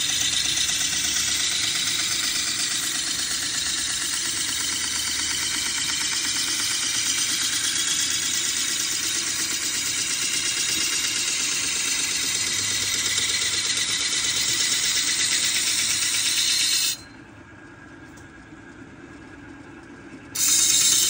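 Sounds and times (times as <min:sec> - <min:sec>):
workshop machinery running: 0:00.0 - 0:21.0.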